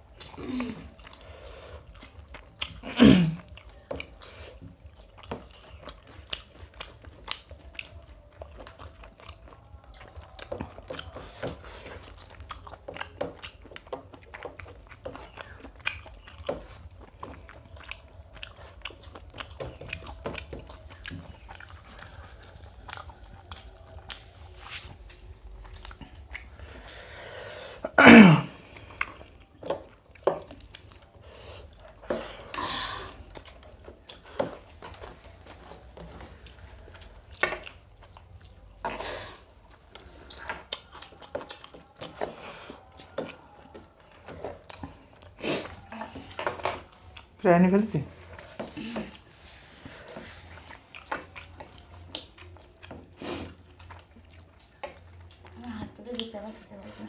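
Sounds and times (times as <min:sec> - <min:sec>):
chewing and mouth sounds: 0:00.0 - 0:57.0.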